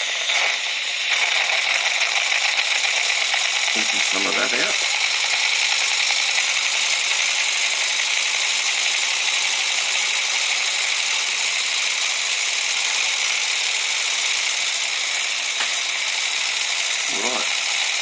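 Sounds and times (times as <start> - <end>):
model steam engine hissing: 0.0 - 18.0.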